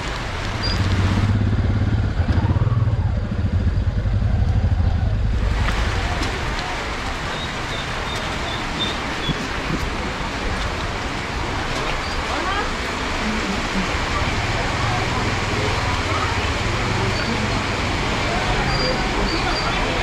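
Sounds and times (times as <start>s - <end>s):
road noise: 0.0s - 20.0s
vehicle engine hum: 0.0s - 20.0s.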